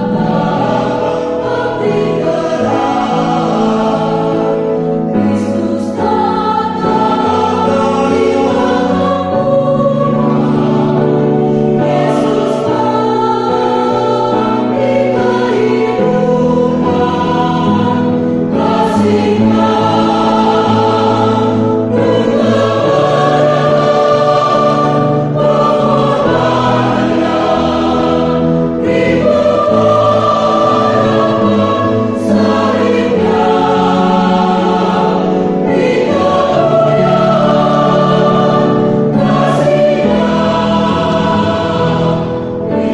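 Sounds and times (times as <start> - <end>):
choir singing a hymn: 0.0 - 42.9.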